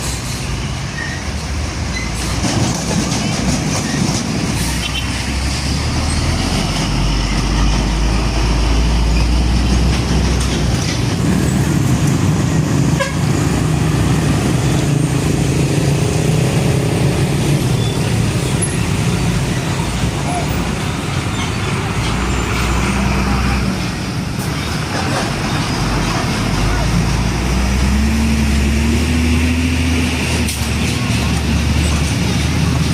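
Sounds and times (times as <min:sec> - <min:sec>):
heavy trucks passing: 0:00.0 - 0:32.9.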